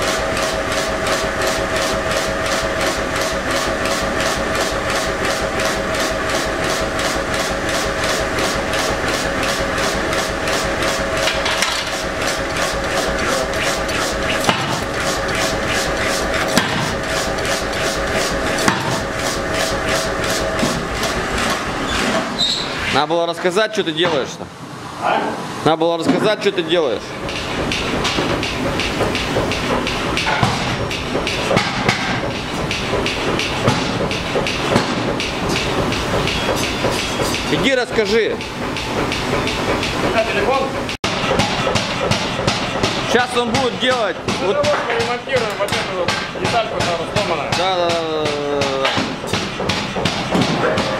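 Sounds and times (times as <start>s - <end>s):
power hammer beating: 0.0s - 21.8s, 26.2s - 50.9s
motor hum: 0.0s - 23.0s, 26.4s - 50.9s
workshop din: 0.0s - 50.9s.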